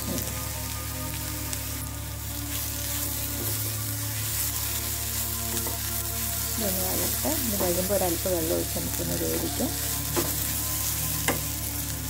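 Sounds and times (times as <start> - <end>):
spatula stirring in a pan: 0.0 - 12.0
vegetables sizzling in a pan: 0.0 - 12.0.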